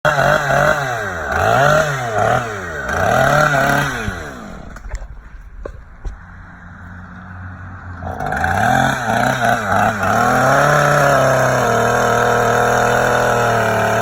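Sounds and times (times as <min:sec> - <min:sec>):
chainsaw revving and idling: 0:00.0 - 0:14.0.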